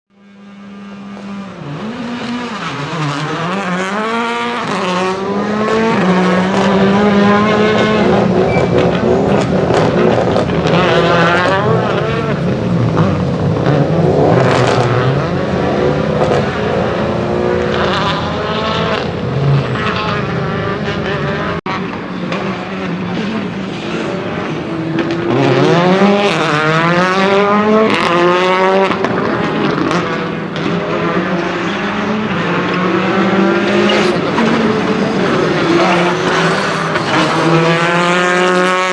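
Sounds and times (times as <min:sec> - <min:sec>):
rally car engine revving hard: 0:00.1 - 0:38.9.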